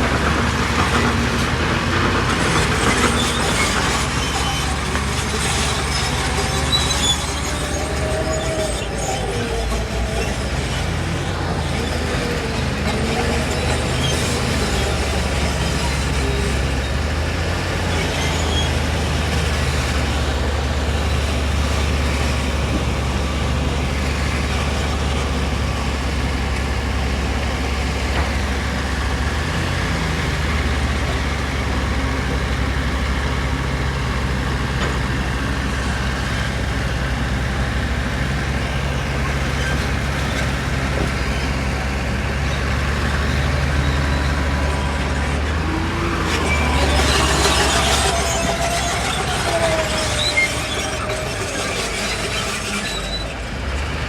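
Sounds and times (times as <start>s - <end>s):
heavy diesel machinery drone: 0.0s - 54.0s.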